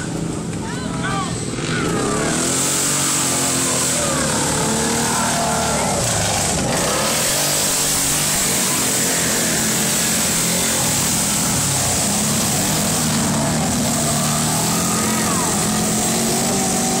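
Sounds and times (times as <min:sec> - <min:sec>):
atv engines revving: 0:00.0 - 0:17.0.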